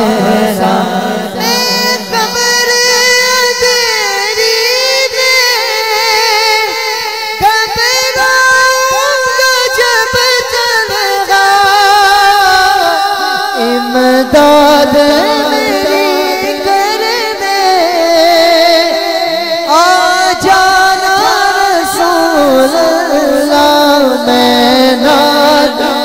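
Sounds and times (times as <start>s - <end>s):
man singing melismatic line: 0.0s - 13.0s, 13.6s - 26.0s.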